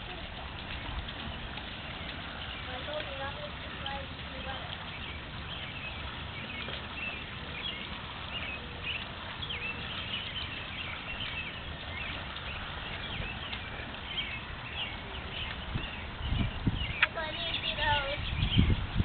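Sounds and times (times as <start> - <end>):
rainwater rushing: 0.0 - 19.0.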